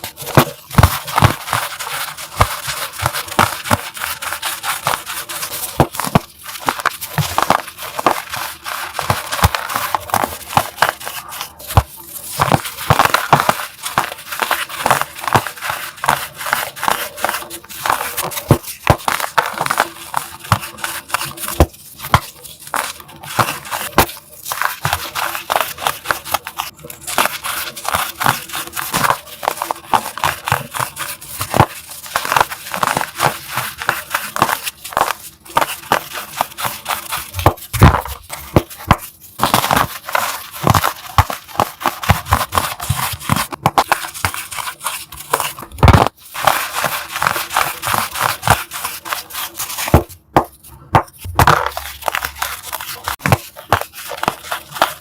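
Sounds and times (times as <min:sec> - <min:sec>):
chalk blocks crunching: 0:00.0 - 0:55.0.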